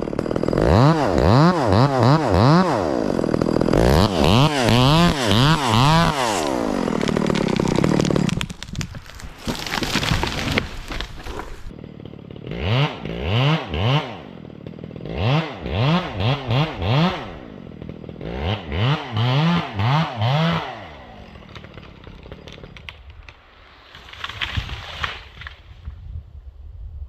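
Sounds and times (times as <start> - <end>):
chainsaw revving and idling: 0.0 - 23.0.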